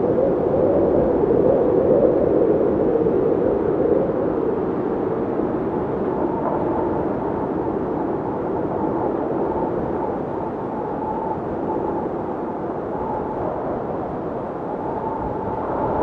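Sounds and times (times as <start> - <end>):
blizzard wind rushing: 0.0 - 16.0
faint whistling howl: 0.0 - 16.0.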